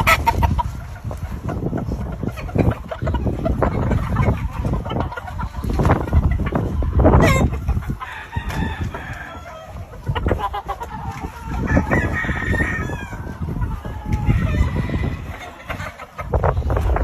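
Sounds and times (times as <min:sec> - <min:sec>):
roosters crowing: 0:00.0 - 0:17.0.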